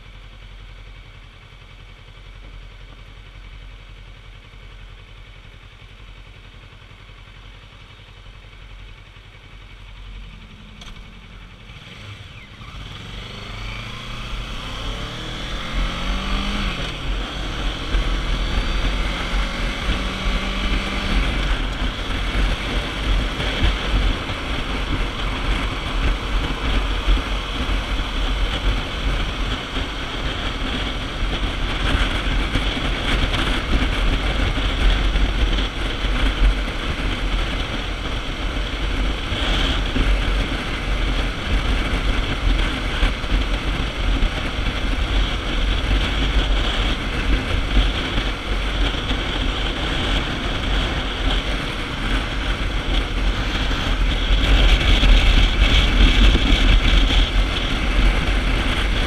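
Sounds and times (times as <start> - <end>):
motorcycle engine drone: 0.0 - 59.0
tyres on road: 0.0 - 59.0
wind rush on microphone: 11.3 - 59.0.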